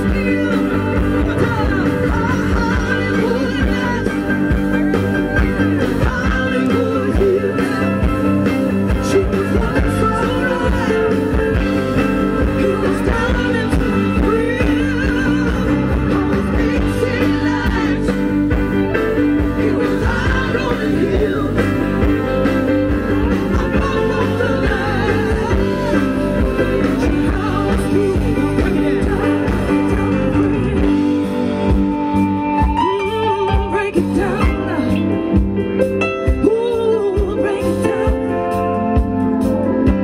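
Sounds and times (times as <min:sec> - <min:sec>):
deep bass: 0:00.0 - 0:32.6
electric guitar: 0:00.0 - 0:40.0
keyboard: 0:00.0 - 0:40.0
woman singing lead: 0:00.0 - 0:40.0.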